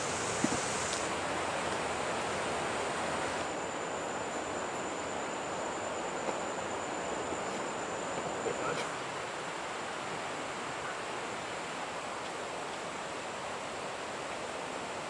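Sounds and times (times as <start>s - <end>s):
faint thin high whine: 0.0s - 15.0s
steady rushing outdoor noise: 0.0s - 15.0s.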